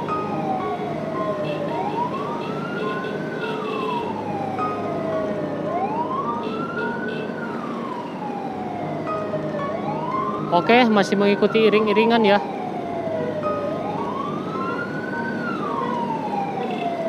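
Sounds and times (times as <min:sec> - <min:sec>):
emergency vehicle siren wailing: 0:00.0 - 0:17.0
traffic and engine noise: 0:00.0 - 0:17.0.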